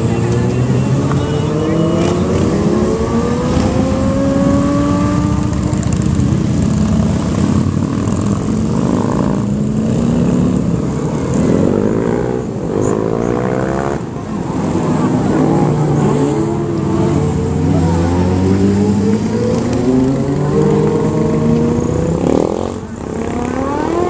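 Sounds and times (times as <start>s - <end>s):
motorcycle engine revving: 0.0s - 24.0s
motorcycles riding past: 0.0s - 24.0s.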